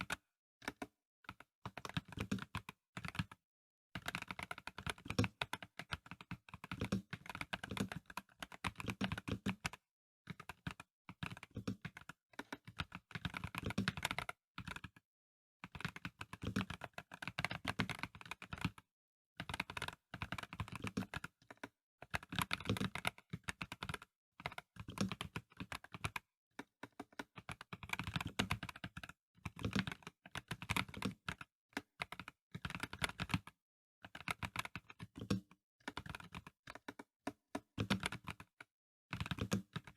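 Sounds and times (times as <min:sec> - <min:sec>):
typing on mechanical keyboard: 0:00.0 - 0:03.4, 0:04.0 - 0:15.0, 0:15.6 - 0:39.9.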